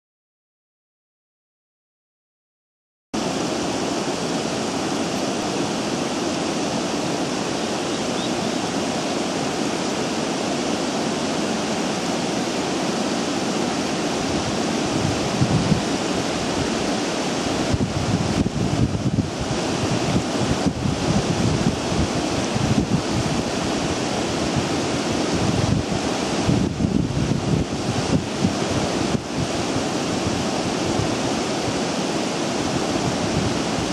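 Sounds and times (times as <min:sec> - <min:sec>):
water rushing in basins: 0:03.2 - 0:33.9
wind buffeting microphone: 0:03.2 - 0:33.9.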